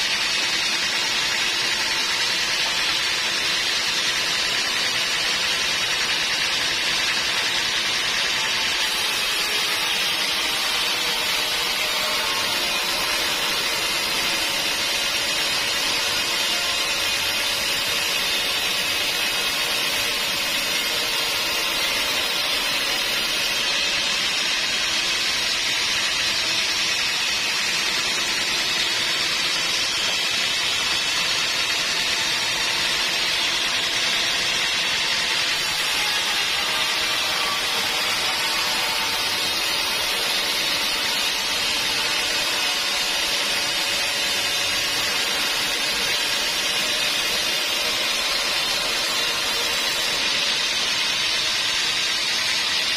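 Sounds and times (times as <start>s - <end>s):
sawmill saw cutting wood: 0.0s - 52.9s.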